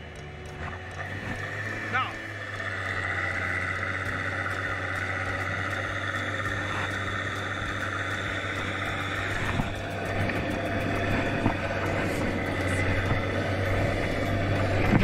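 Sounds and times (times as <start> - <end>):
tractor engine humming: 0.0 - 15.0.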